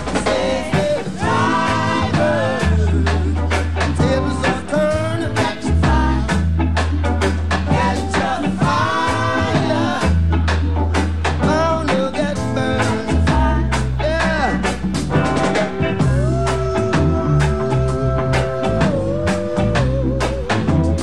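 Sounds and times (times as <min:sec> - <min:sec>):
person singing: 0:00.0 - 0:06.5, 0:07.7 - 0:14.7, 0:16.0 - 0:21.0
bass: 0:00.0 - 0:21.0
steady drum beat: 0:00.0 - 0:21.0.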